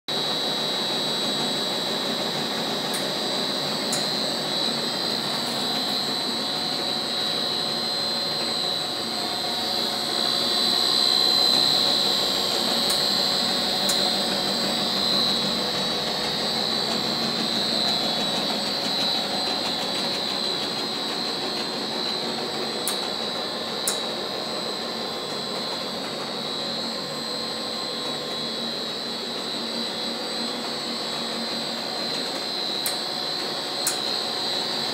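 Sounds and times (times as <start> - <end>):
extruder whine and hum: 0.1 - 34.9.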